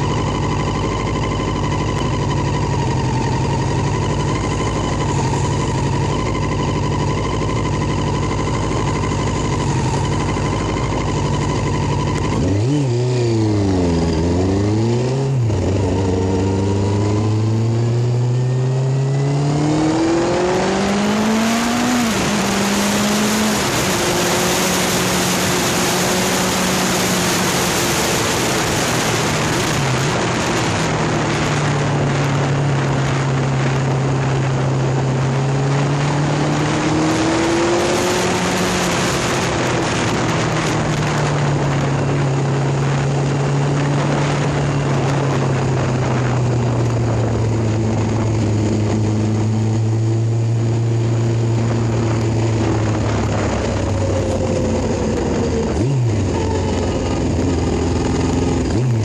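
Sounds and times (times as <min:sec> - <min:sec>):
motorbike engine running: 0:00.0 - 0:59.0
wind noise on microphone: 0:00.0 - 0:59.0.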